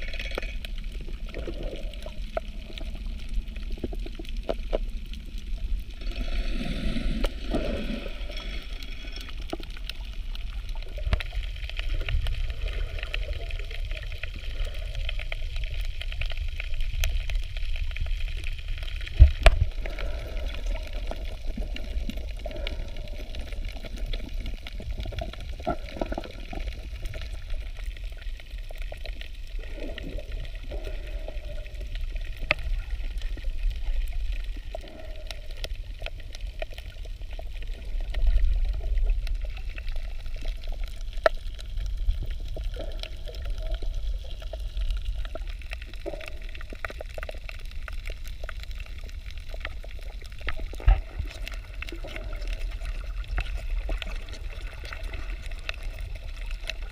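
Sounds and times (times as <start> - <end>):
low rumble of moving water: 0.0 - 56.9.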